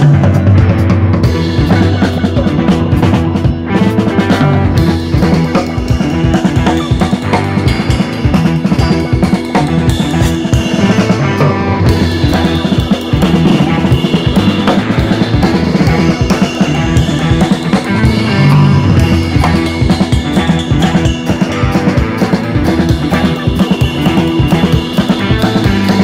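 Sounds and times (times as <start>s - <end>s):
drum kit beat: 0.0s - 26.0s
rock music: 0.0s - 26.0s.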